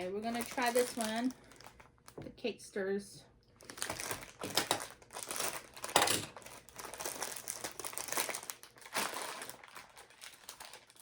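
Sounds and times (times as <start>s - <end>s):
plastic wrapper crinkling: 0.0s - 2.2s, 3.5s - 11.0s.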